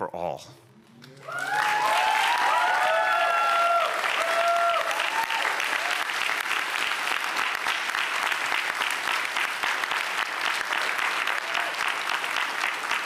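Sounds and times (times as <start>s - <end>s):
crowd applauding: 1.2s - 13.0s.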